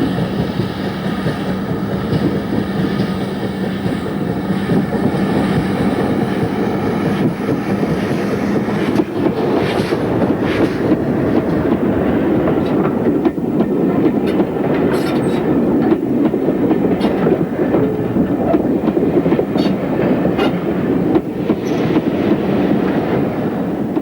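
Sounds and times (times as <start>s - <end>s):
rail-joint clickety-clack: 0.0s - 24.0s
steam train rumbling: 0.0s - 24.0s.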